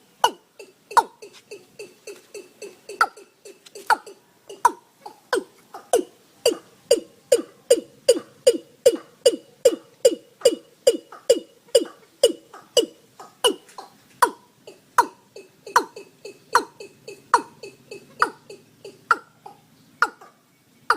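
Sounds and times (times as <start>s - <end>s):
bird calling hollow falling notes: 1.8s - 20.9s.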